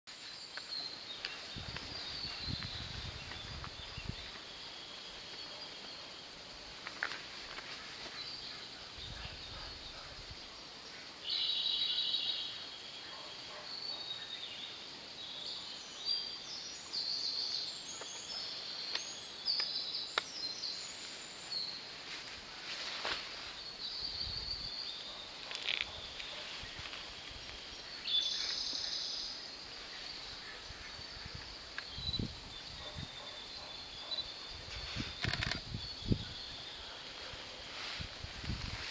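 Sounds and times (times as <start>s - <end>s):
birds chirping and trilling: 0.1s - 38.9s.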